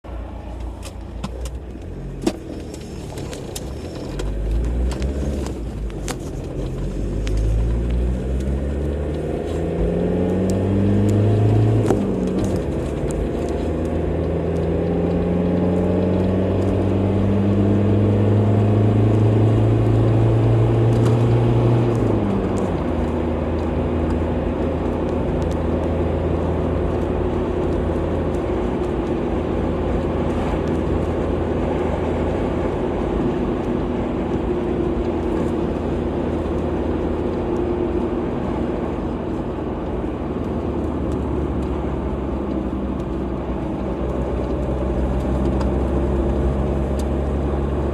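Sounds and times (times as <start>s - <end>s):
car engine accelerating: 0.0s - 47.9s
road and tyre noise: 0.0s - 47.9s.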